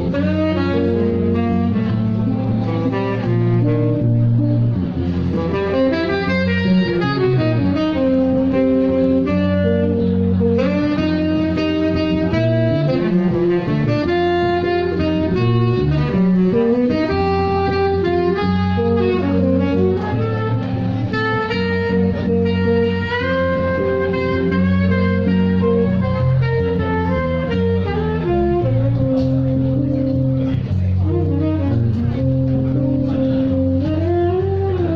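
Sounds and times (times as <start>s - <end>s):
bass: 0.0s - 34.9s
saxophone jazz melody: 0.0s - 34.9s.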